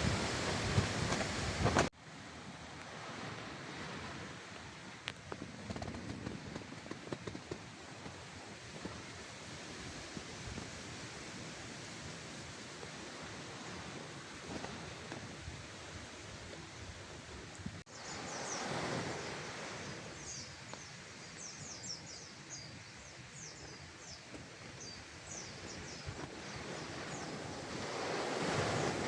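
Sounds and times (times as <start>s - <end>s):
rushing wind: 0.0s - 29.0s.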